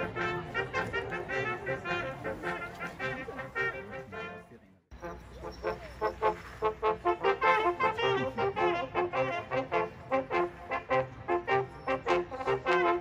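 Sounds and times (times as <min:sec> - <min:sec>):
brass playing brisk tune: 0:00.0 - 0:13.0.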